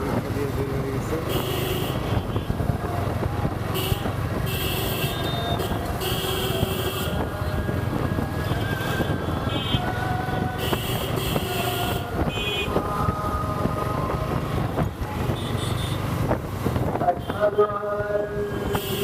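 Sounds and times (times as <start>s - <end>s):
vehicle and road noise: 0.0s - 19.0s
wind buffeting microphone: 1.9s - 18.8s.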